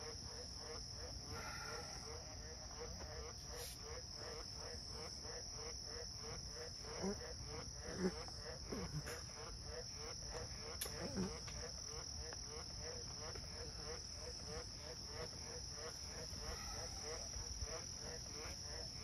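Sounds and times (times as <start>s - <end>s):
continuous high buzz: 0.0s - 19.0s
insects chirping: 0.0s - 19.0s.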